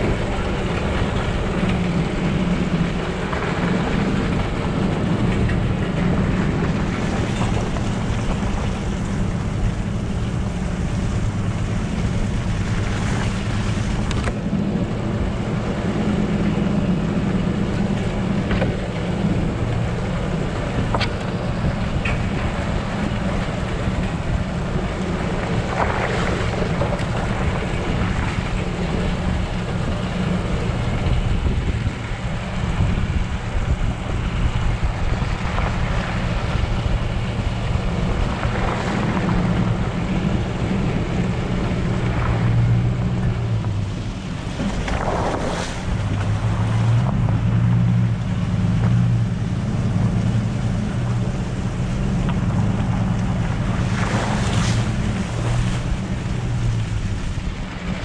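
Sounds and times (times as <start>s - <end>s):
truck engine and tyres rumbling: 0.0s - 58.0s
wind buffeting microphone: 0.0s - 58.0s.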